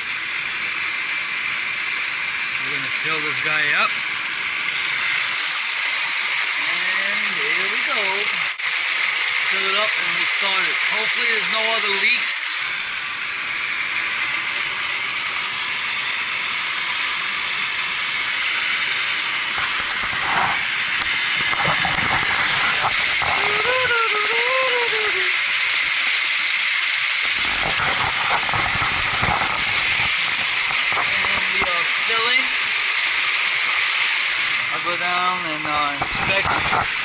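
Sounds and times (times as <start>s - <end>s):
water gushing into a basin: 0.0s - 37.0s.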